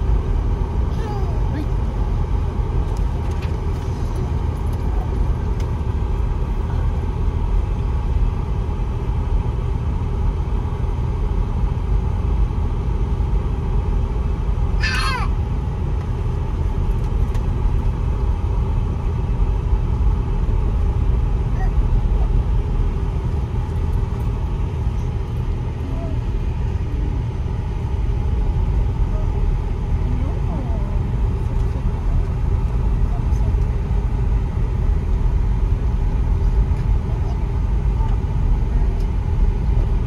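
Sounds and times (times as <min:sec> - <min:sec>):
car driving on dirt road: 0:00.0 - 0:40.0.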